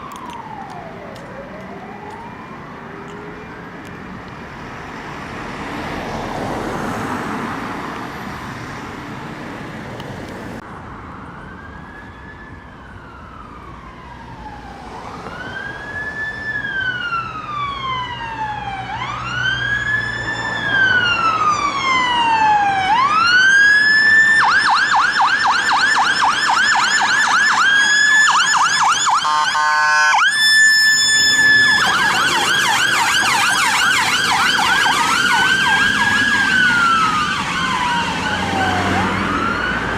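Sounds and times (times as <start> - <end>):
emergency vehicle siren: 0.0 - 9.4, 10.6 - 39.9
traffic noise: 0.0 - 39.9.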